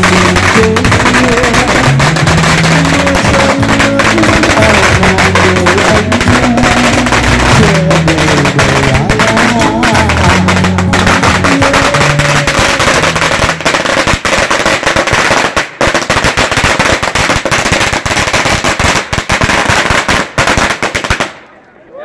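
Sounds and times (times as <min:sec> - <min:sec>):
firecrackers banging: 0:00.0 - 0:21.5.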